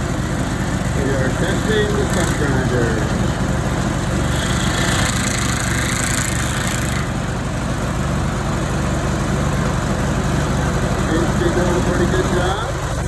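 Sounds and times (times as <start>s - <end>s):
cutter wheel grinding wood: 0.0s - 13.0s
stump grinder engine running: 0.0s - 13.0s.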